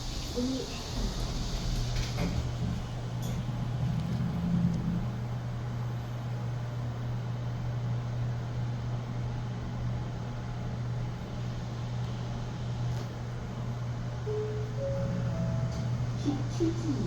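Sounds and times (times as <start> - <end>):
elevator hum and airy rush: 0.0 - 17.0.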